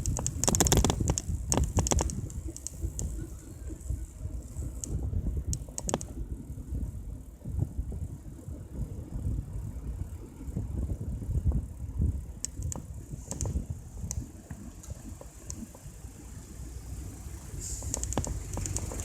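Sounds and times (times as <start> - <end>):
bike clicks and rattles: 0.0 - 16.1, 17.6 - 19.0
wind and road noise: 0.0 - 19.0.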